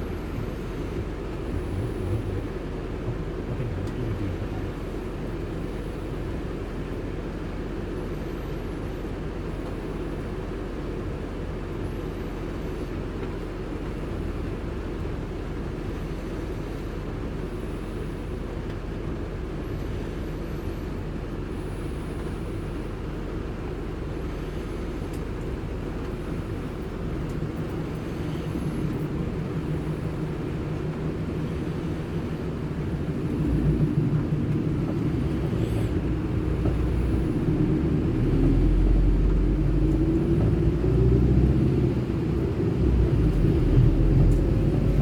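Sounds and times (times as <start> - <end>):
car engine and road noise: 0.0 - 45.0.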